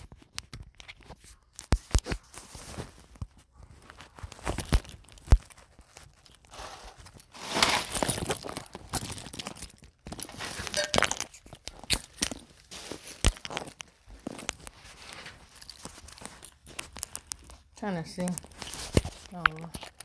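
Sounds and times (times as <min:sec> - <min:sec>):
rustling and crinkling handling noise: 0:00.0 - 0:20.0.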